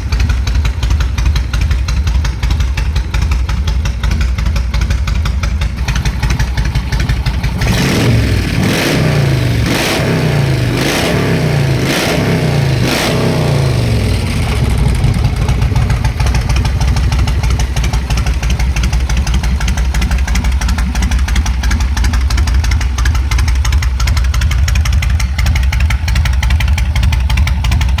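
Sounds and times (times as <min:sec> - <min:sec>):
motorcycle engine idling and revving: 0:00.0 - 0:28.0.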